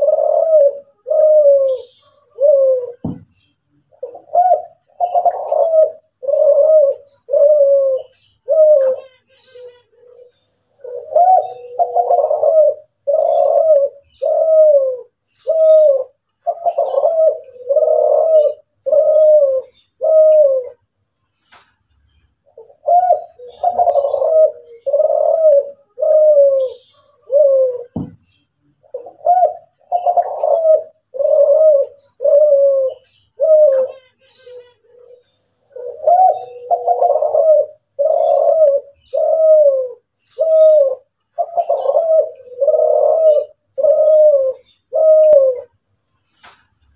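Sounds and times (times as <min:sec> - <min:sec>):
dove cooing: 0:00.0 - 0:20.9, 0:22.5 - 0:45.8
small birds chirping: 0:00.0 - 0:46.9.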